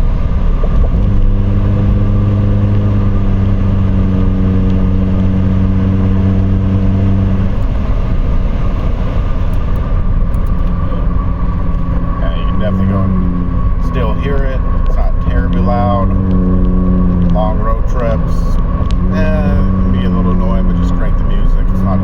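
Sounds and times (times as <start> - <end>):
car exhaust drone: 0.0 - 22.0
tyre and road noise: 0.0 - 22.0.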